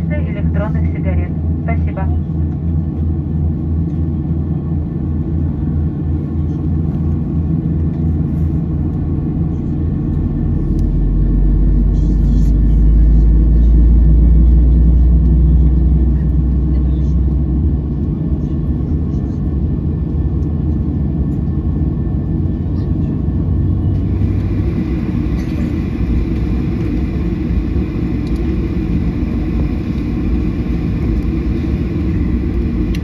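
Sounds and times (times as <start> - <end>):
airplane cabin engine drone: 0.0 - 33.0
deep rumble: 0.0 - 33.0.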